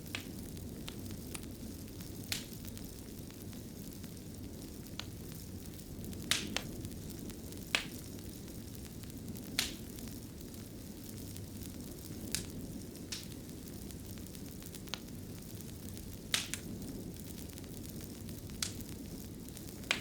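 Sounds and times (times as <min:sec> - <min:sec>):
fire crackles and pops: 0:00.0 - 0:20.0
fireplace flames rumbling: 0:00.0 - 0:20.0.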